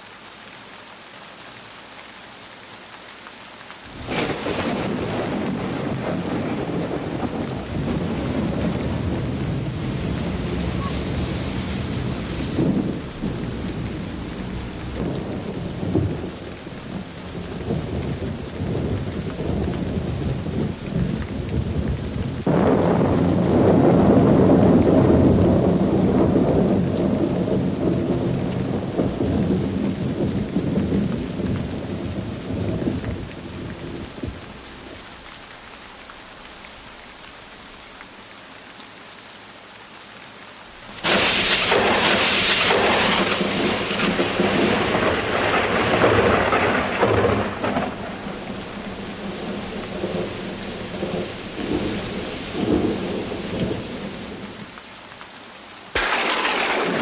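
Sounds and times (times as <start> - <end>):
steady rain: 0.0 - 57.0
thunder rumbling: 3.9 - 35.2, 40.8 - 54.7, 56.0 - 57.0.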